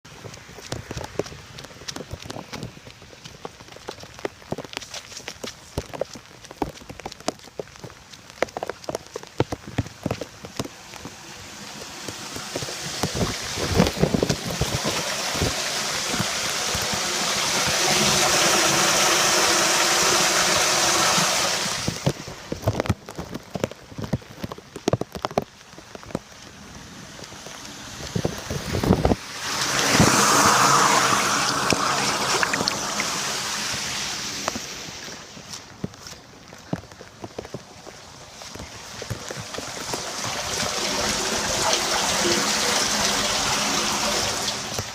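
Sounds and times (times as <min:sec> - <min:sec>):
rush of water: 0:00.0 - 0:44.9
water drips and splashes: 0:00.0 - 0:44.9.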